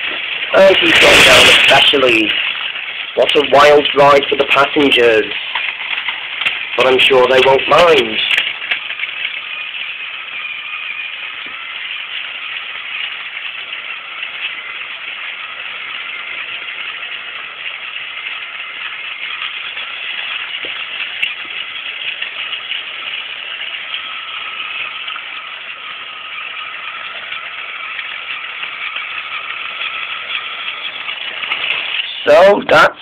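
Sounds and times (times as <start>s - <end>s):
toy train motor whirring: 0.0s - 33.0s.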